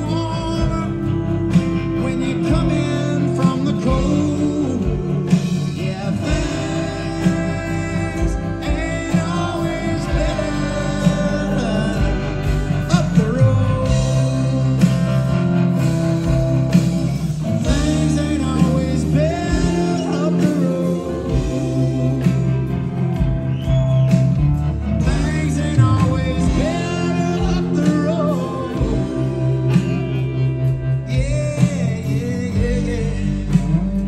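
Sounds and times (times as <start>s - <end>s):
person singing: 0.0s - 16.4s, 17.4s - 23.6s, 24.2s - 34.0s
bass: 0.0s - 34.0s
drums: 0.0s - 34.0s
electric guitars: 0.0s - 34.0s.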